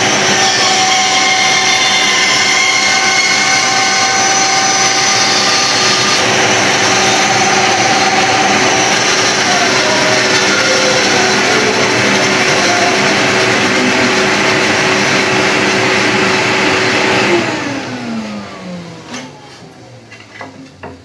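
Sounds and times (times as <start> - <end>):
bandsaw cutting wood: 0.0 - 19.7
vacuum extractor running: 0.0 - 21.0.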